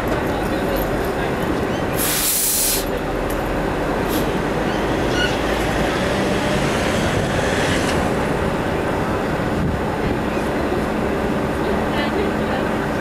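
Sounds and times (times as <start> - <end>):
city street noise: 0.0 - 13.0
tram equipment rushing hum: 0.0 - 13.0.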